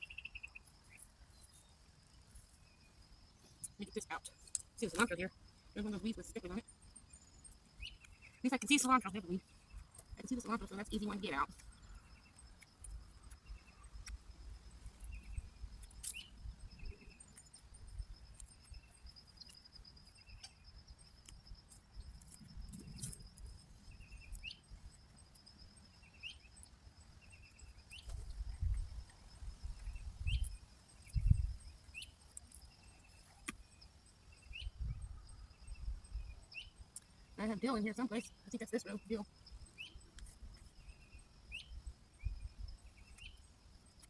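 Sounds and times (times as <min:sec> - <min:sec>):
bird chirping: 0:00.0 - 0:01.7, 0:02.4 - 0:14.2, 0:14.8 - 0:21.0, 0:22.0 - 0:24.8, 0:25.9 - 0:43.6
high insect trill: 0:00.0 - 0:44.0.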